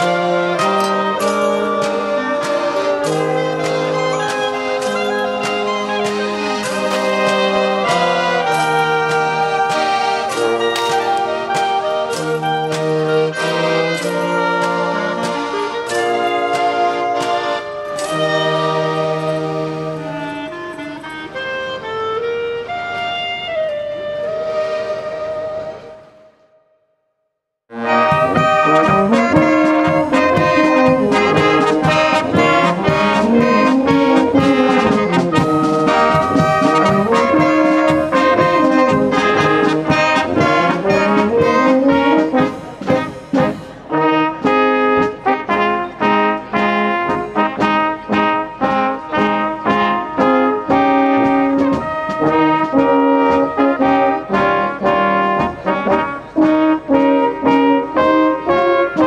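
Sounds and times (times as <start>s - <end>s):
brass band playing: 0.0s - 26.4s, 27.7s - 59.0s.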